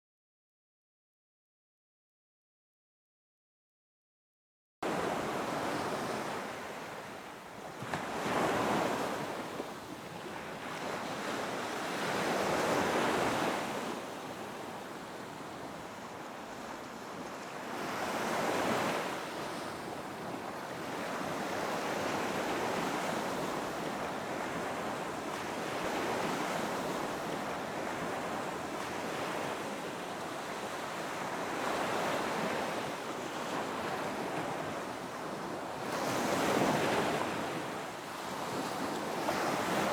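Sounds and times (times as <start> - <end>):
waves breaking on beach: 4.9 - 39.9.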